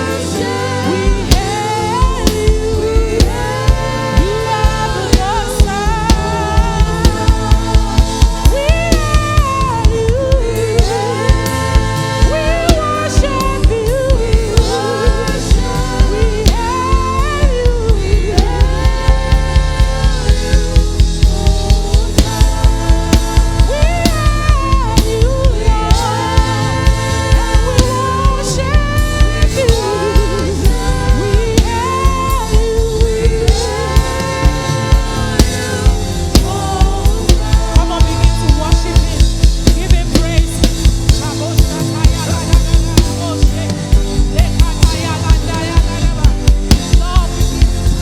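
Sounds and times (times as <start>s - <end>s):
bass: 0.0s - 48.0s
drums steady beat: 0.0s - 48.0s
gospel band playing: 0.0s - 48.0s
person singing with vibrato: 0.0s - 48.0s.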